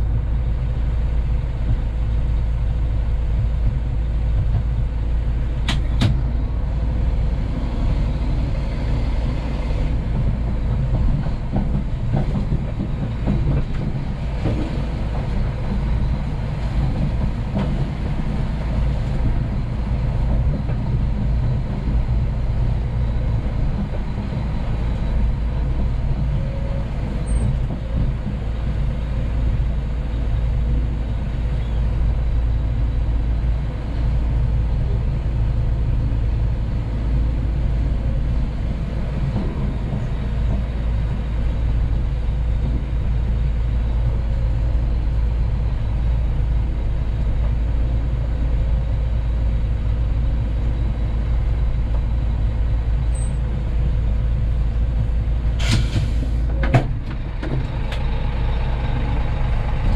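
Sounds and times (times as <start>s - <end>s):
truck diesel engine rumbling: 0.0s - 59.9s.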